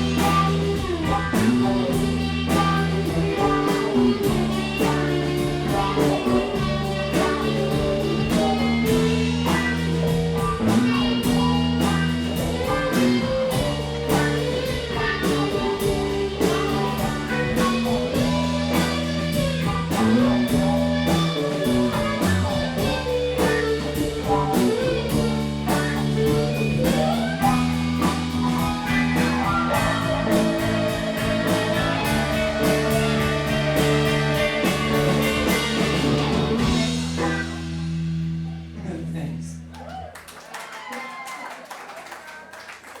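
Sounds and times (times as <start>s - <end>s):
drum kit steady beat: 0.0s - 38.7s
slide guitar: 0.0s - 39.6s
electric lead guitar: 0.0s - 39.8s
bass guitar: 0.0s - 40.3s.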